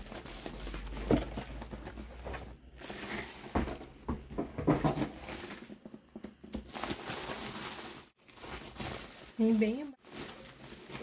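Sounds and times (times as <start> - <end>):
bubble wrap rustling: 0.0 - 4.0, 4.8 - 11.0.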